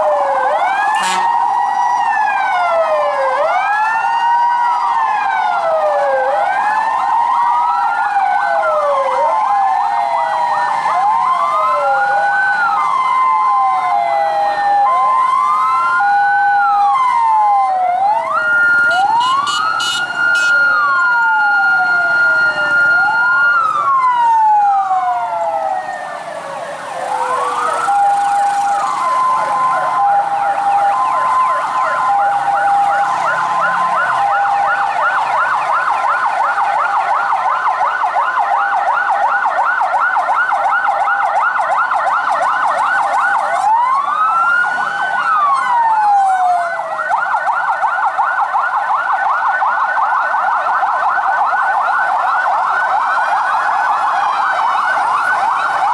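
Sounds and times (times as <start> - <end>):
fast yelp siren: 0.0 - 55.9
two-tone hi-lo siren: 0.0 - 55.9
wailing siren: 0.0 - 55.9.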